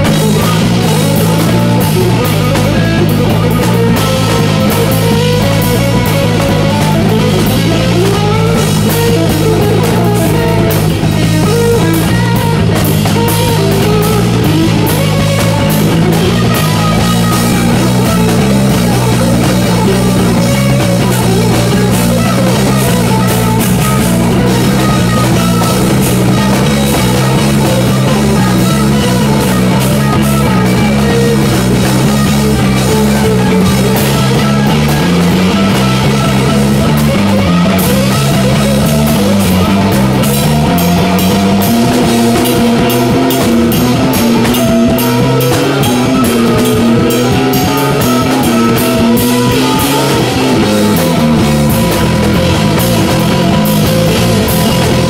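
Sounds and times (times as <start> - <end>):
live rock band playing: 0.0 - 55.0
twelve-string electric guitar: 0.0 - 55.0.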